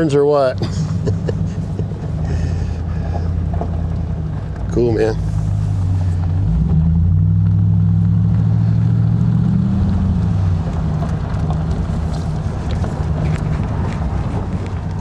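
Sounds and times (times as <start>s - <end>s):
car engine accelerating: 0.0s - 15.0s
road noise inside car: 0.0s - 15.0s.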